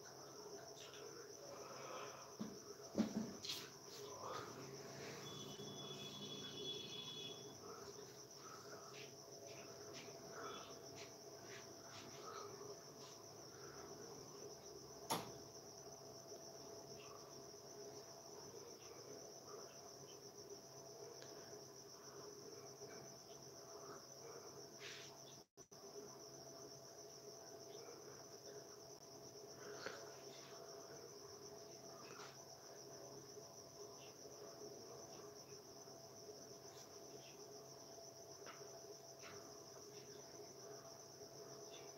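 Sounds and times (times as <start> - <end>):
crickets trilling: 0.0 - 41.9
faint steady hum: 0.0 - 41.9.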